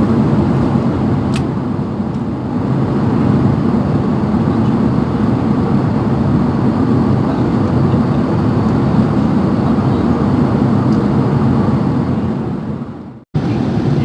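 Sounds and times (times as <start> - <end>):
airliner cabin engine drone: 0.0 - 14.0.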